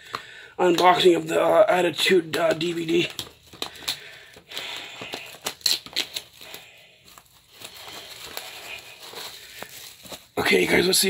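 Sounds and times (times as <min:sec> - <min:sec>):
plastic shrink-wrap crinkling: 0:00.0 - 0:11.0.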